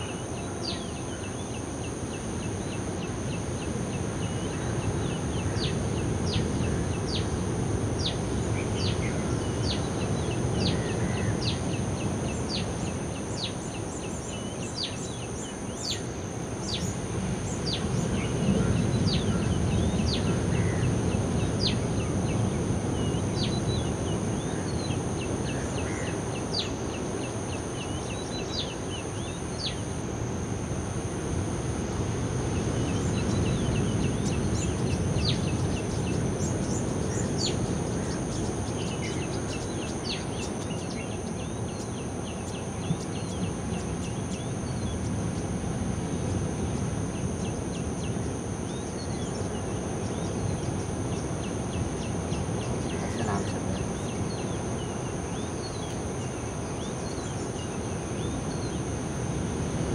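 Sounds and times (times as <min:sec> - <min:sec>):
steady high-pitched hum: 0:00.0 - 0:59.9.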